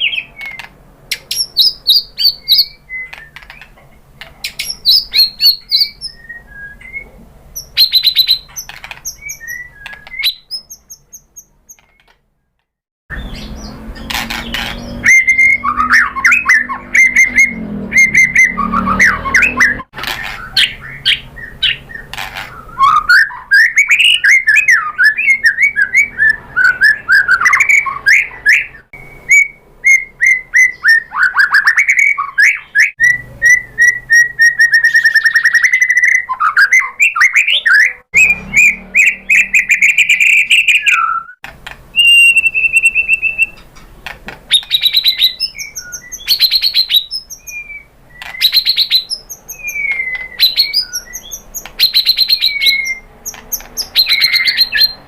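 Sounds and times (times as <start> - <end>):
songbird whistles and trills: 0.0 - 12.2, 13.1 - 43.8, 44.5 - 55.0.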